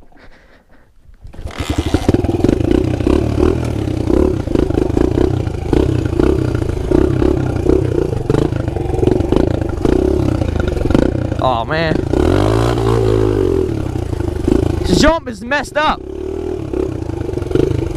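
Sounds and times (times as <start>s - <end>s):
pit bike engine running: 1.3s - 17.9s.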